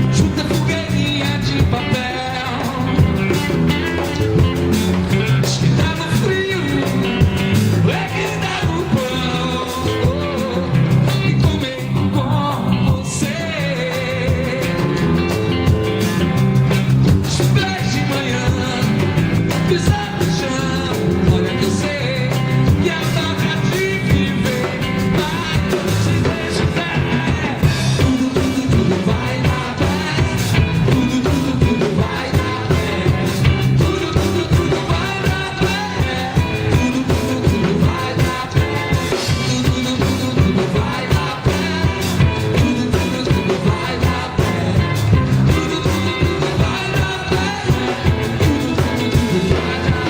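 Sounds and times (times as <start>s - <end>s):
live reggae band: 0.0s - 50.0s.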